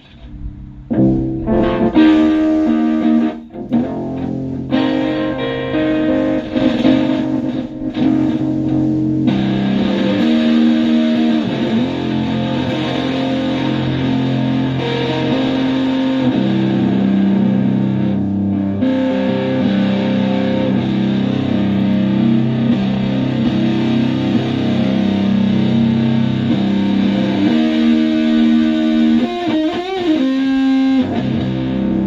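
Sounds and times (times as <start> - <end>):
fuzz electric guitar chords: 0.0 - 32.0.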